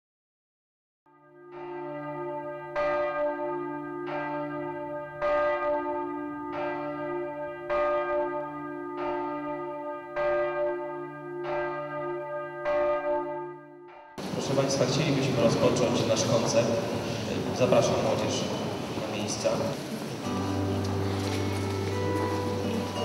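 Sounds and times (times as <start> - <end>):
church bells ringing: 1.2 - 23.0.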